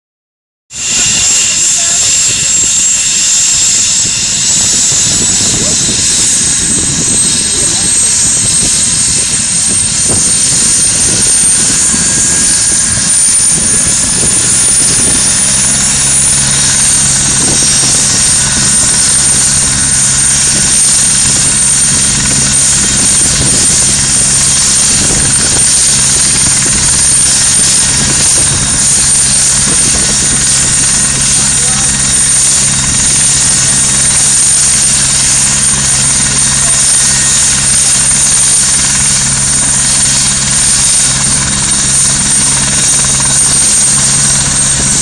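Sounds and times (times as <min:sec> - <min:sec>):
helicopter turbine whine: 0:00.7 - 0:45.0.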